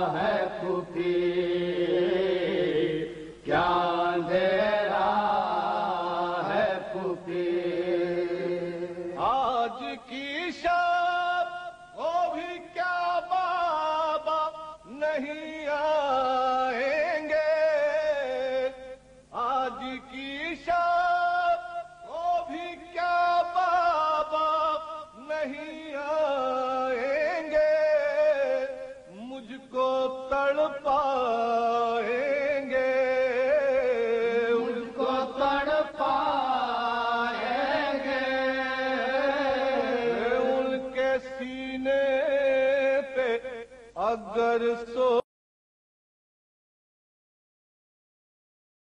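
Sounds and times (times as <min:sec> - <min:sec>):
solo voice singing a lament: 0:00.0 - 0:45.2.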